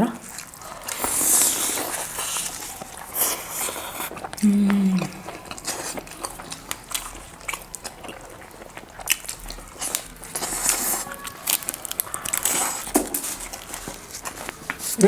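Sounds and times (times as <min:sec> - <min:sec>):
chewing meat on the bone: 0:00.0 - 0:15.0.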